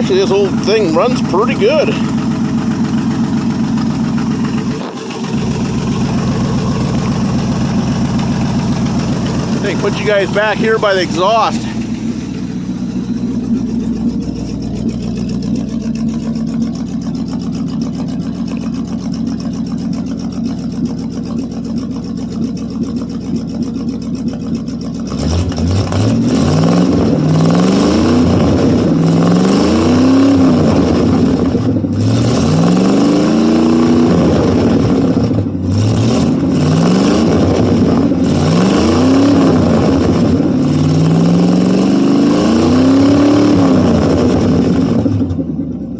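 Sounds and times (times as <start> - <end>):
truck engine idling and revving: 0.0 - 45.9.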